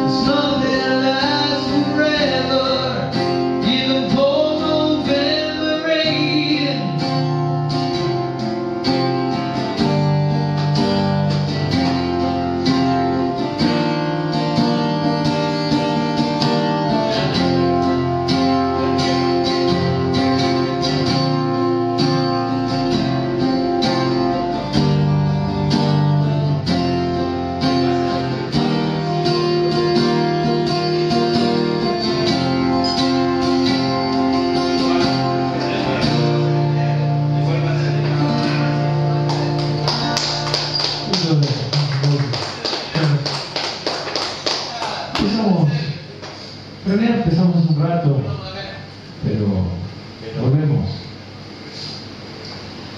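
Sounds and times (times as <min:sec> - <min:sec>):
acoustic guitar strumming chords: 0:00.0 - 0:44.4.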